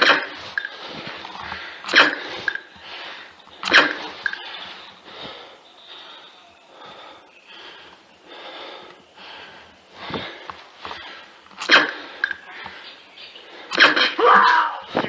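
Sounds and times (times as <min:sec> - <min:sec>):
heavy breathing: 0:00.0 - 0:14.2.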